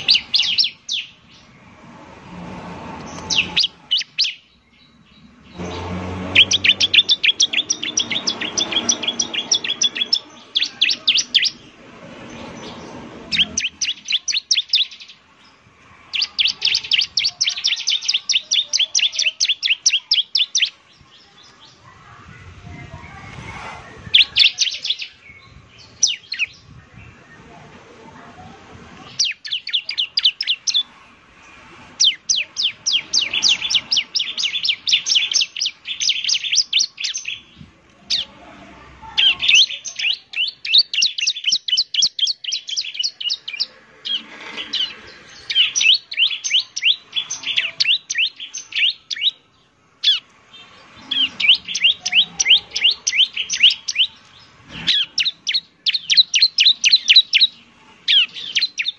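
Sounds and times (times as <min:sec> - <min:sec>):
bird singing rapid sharp chirps: 0:00.0 - 0:01.9, 0:03.0 - 0:21.9, 0:23.8 - 0:27.5, 0:29.1 - 0:31.0, 0:31.9 - 0:38.3, 0:39.2 - 0:58.9.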